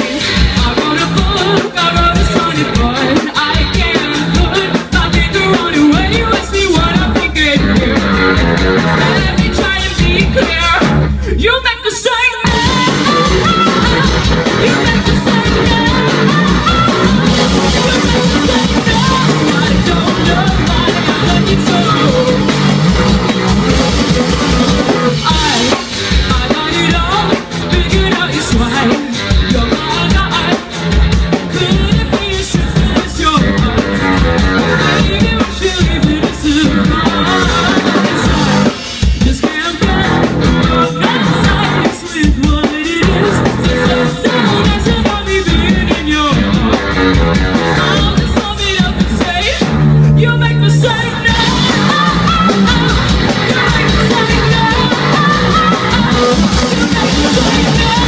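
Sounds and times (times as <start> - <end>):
woman singing into microphone: 0.0 - 8.2, 8.9 - 23.1, 24.7 - 30.7, 31.5 - 46.6, 47.6 - 58.0
drum kit: 0.0 - 58.0
guitar: 0.0 - 58.0.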